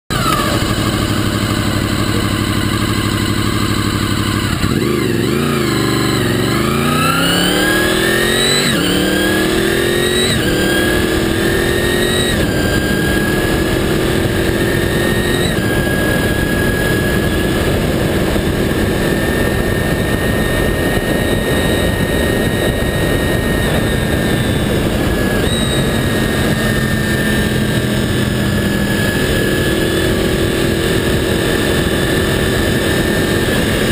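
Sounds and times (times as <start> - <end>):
motorcycle engine accelerating: 0.0 - 33.9
wind and road rush: 0.1 - 33.9.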